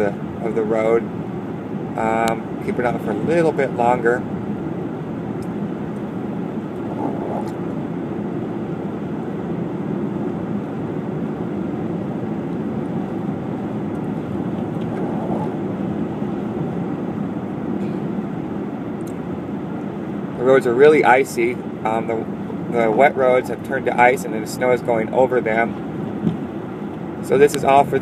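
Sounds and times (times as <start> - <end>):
car driving on wet road: 0.0 - 28.0.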